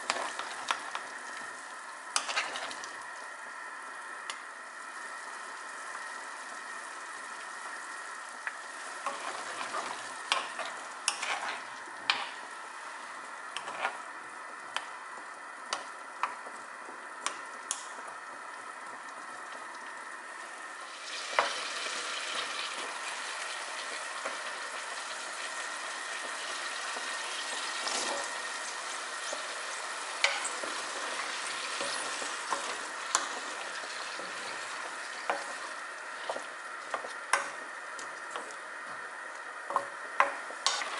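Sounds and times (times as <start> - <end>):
potatoes sizzling in a pan: 0.0 - 40.9.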